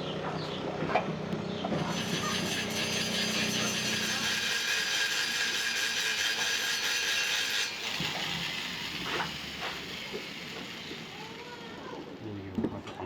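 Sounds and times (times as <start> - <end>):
mechanical whir: 1.8 - 12.9.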